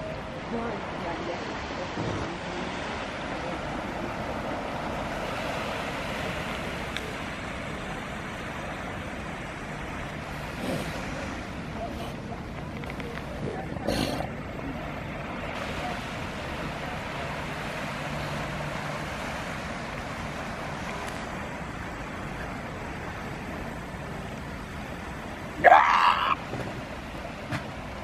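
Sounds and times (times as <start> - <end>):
surf washing on shore: 0.0 - 28.0
wind: 0.0 - 28.0.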